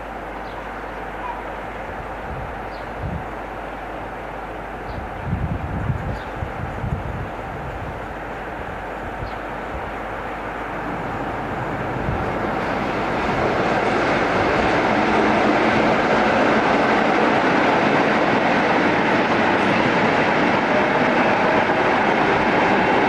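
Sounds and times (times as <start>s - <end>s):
diesel locomotive and wagons rumbling: 0.0s - 23.0s.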